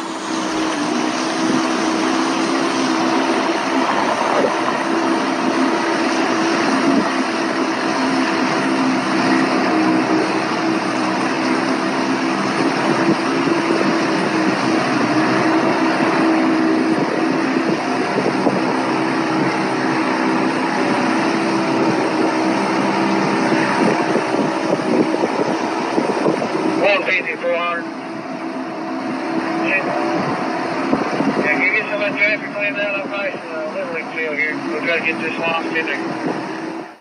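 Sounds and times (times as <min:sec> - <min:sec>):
outboard motor drone: 0:00.0 - 0:37.0.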